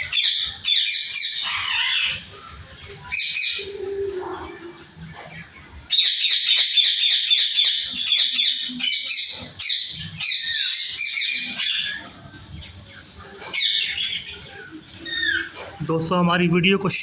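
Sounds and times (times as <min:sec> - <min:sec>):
parrots calling: 0:00.0 - 0:15.9.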